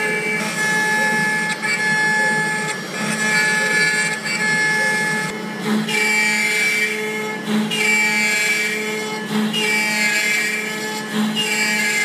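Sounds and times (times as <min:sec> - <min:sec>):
router bit cutting wood: 0:00.0 - 0:12.0
router spindle whining: 0:00.0 - 0:12.0.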